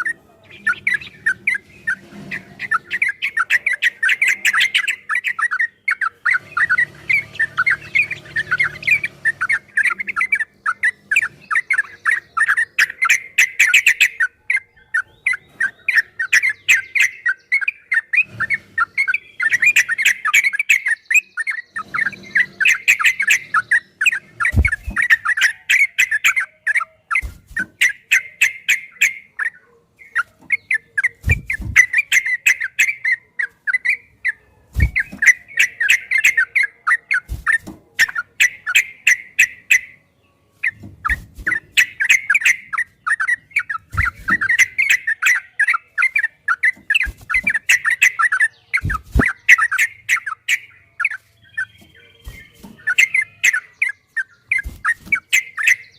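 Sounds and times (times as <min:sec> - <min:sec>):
bird singing chattering notes: 0:00.0 - 0:55.9.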